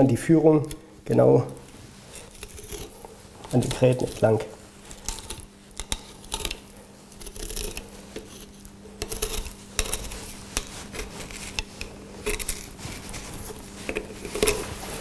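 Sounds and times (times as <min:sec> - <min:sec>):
knife scraping fish bones: 0:02.0 - 0:04.2, 0:04.9 - 0:15.0.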